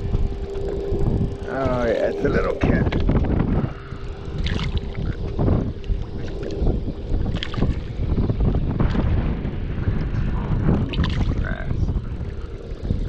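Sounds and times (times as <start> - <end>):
water lapping against kayak: 0.0 - 13.0
wind rumbling on microphone: 0.0 - 13.0.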